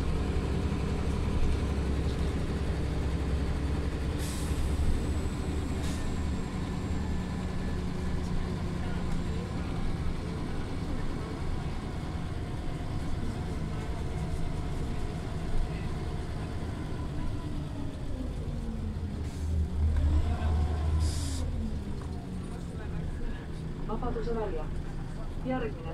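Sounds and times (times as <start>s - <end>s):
bus engine and road rumble: 0.0s - 25.9s.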